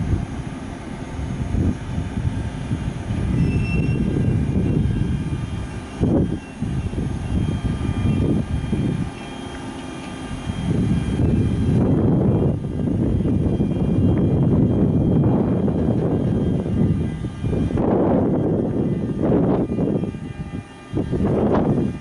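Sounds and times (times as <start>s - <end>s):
electric locomotive hum: 0.0s - 22.0s
faint high whining tones: 0.0s - 22.0s.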